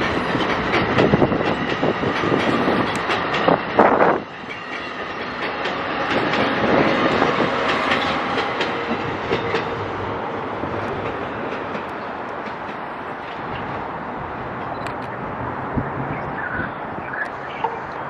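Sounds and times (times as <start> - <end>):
train wheels clacking over rail joints: 0.0 - 14.7.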